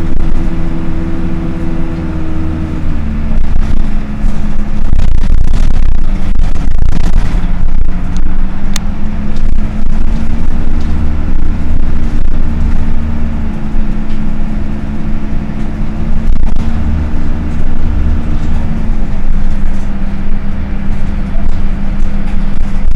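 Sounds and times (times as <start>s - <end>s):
cooling fan droning hum: 0.0s - 22.9s
diesel bus engine rumble: 0.0s - 22.9s.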